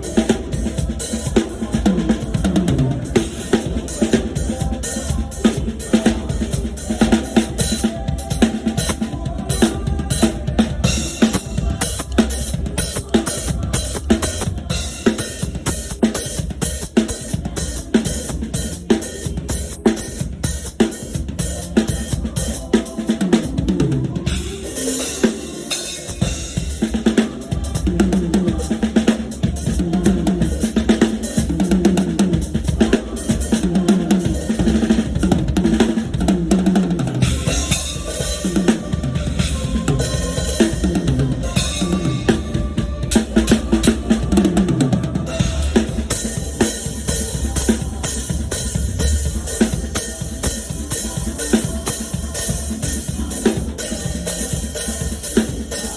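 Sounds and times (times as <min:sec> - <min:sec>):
drum kit groove: 0:00.0 - 0:55.9.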